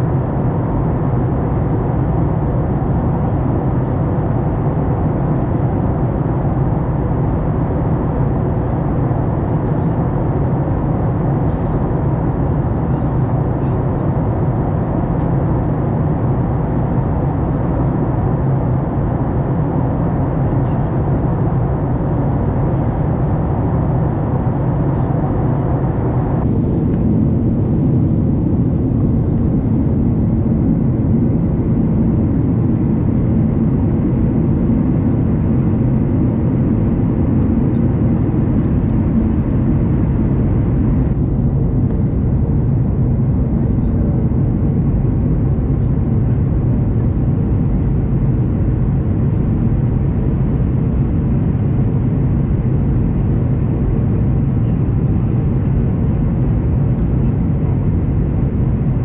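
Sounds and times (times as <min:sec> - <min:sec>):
airliner engine rumble: 0:00.0 - 0:59.0.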